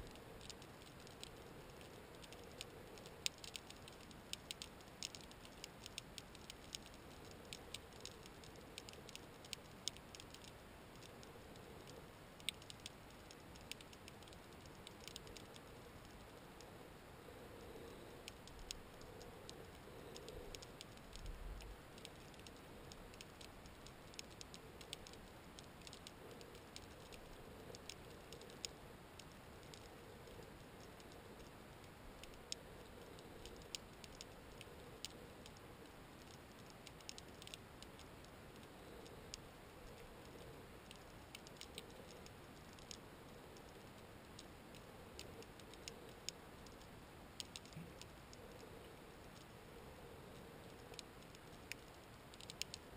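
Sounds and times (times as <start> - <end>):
faint hum: 0.0 - 52.9
sharp clicks and crackles: 0.0 - 52.9.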